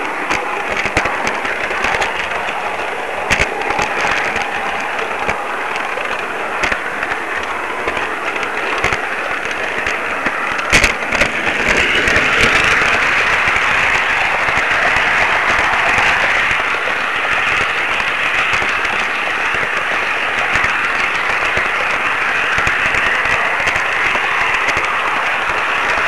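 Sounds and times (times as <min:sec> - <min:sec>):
rushing hiss with crackling clicks: 0:00.0 - 0:26.0.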